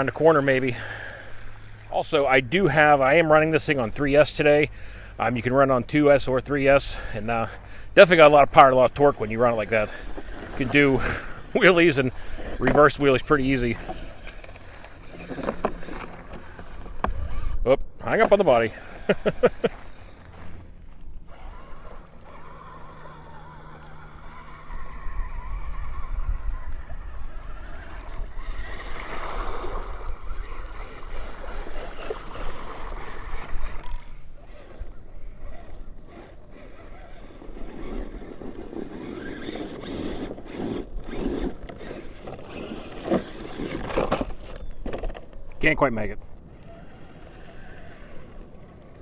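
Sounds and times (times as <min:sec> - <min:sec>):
tyres scrabbling over rocks: 0:00.0 - 0:04.4, 0:07.1 - 0:49.0
electric motor whirring: 0:00.0 - 0:49.0.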